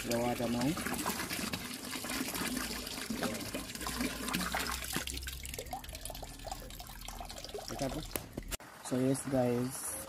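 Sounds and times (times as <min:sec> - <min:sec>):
water pouring into metal pot: 0:00.0 - 0:08.2
water dripping: 0:00.0 - 0:08.6.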